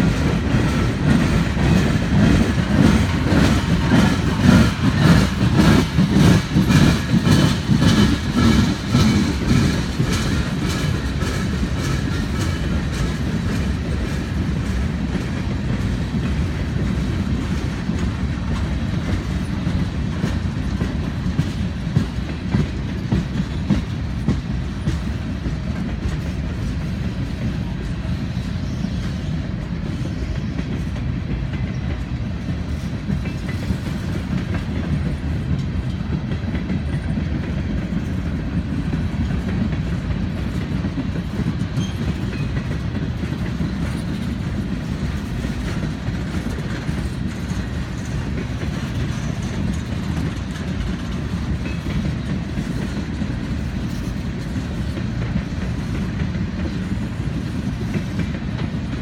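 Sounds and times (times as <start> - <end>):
train wheels rumbling on rail: 0.0 - 59.0
wheels clicking over rail joints: 0.0 - 59.0.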